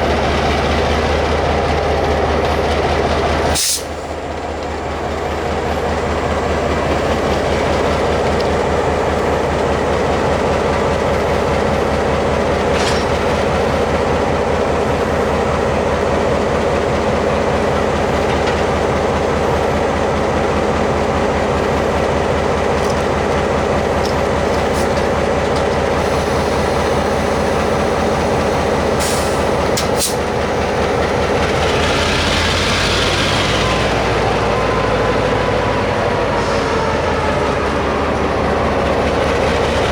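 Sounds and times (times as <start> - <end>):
locomotive drone: 0.0 - 39.9.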